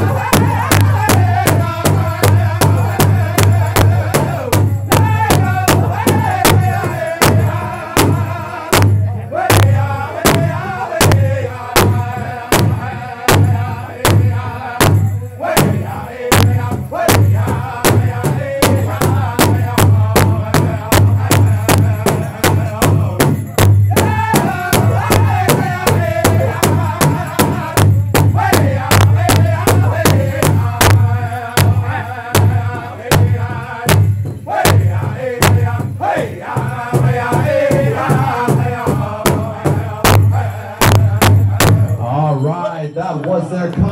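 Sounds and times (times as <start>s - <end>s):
large drum beating: 0.0s - 42.0s
high-pitched group singing: 0.0s - 43.9s.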